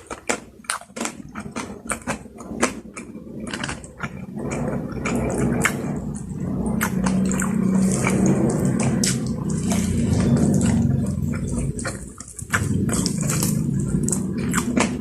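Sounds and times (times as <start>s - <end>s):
mouth clicks and smacks: 0.0s - 15.0s
wet chewing: 0.0s - 15.0s.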